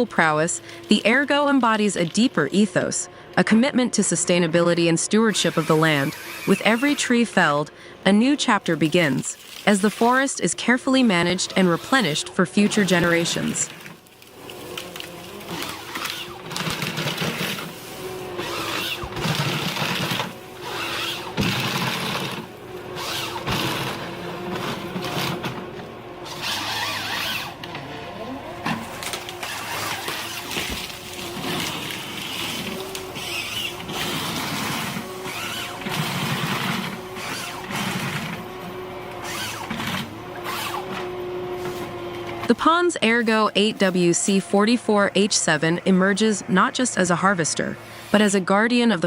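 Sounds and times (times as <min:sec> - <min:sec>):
harvester head cutting logs: 0:00.0 - 0:03.2, 0:05.2 - 0:48.3
engine and hydraulic hum: 0:00.0 - 0:49.0.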